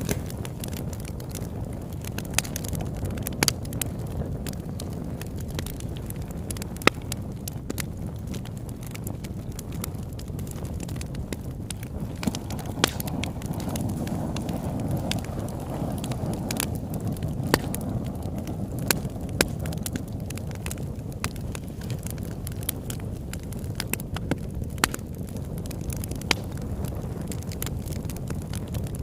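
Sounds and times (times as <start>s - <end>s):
campfire crackling and popping: 0.0s - 29.0s
low fire rumble: 0.0s - 29.0s.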